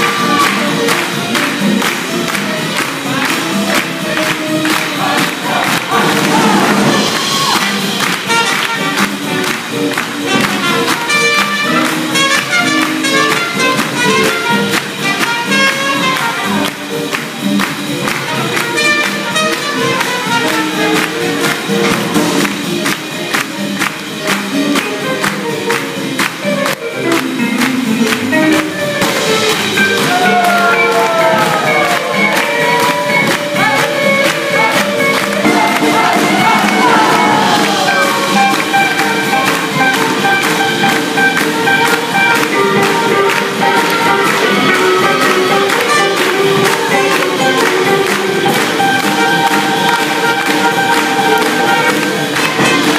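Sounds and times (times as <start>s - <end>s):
swing jazz band playing: 0.0s - 52.9s.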